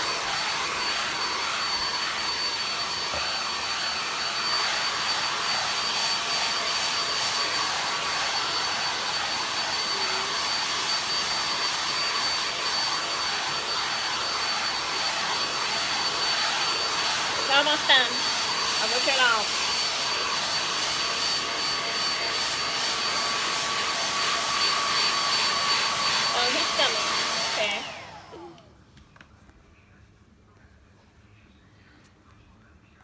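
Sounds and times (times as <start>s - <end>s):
hair dryer running: 0.0s - 28.7s.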